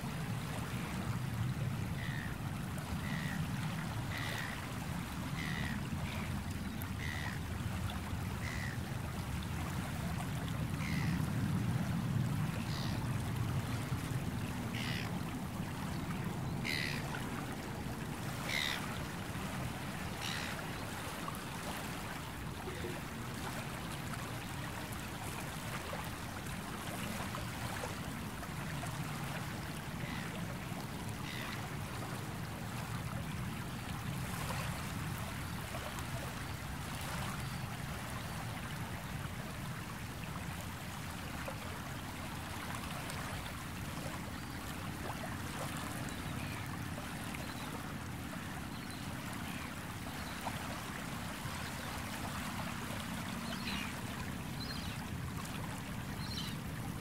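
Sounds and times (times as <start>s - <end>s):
small water splashes: 0.0s - 57.0s.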